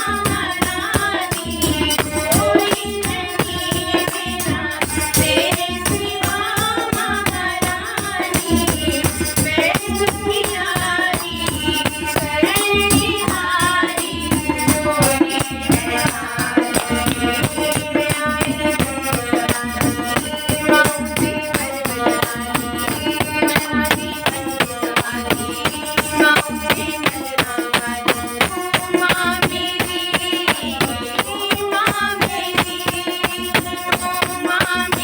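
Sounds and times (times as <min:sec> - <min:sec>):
rattling hand percussion: 0:00.0 - 0:35.0.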